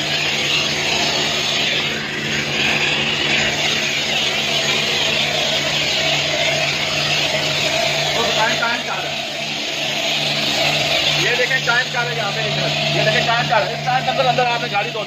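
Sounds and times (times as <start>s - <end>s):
constant low hum: 0.0s - 15.0s
pressure washer spray hissing: 0.0s - 15.0s.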